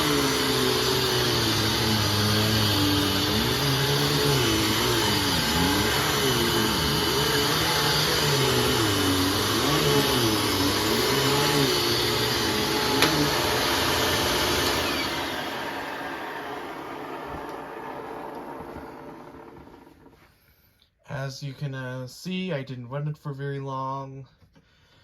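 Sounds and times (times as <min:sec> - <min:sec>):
vacuum cleaner motor humming: 0:00.0 - 0:20.2.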